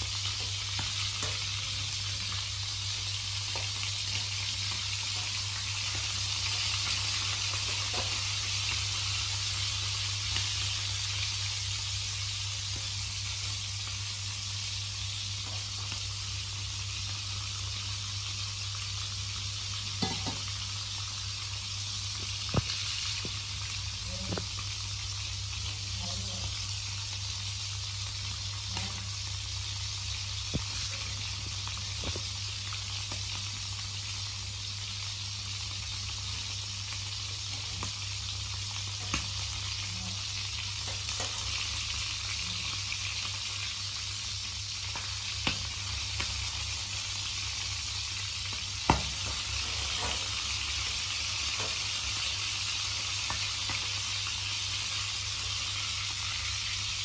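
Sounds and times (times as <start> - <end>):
frogs frying in oil: 0.0 - 57.0.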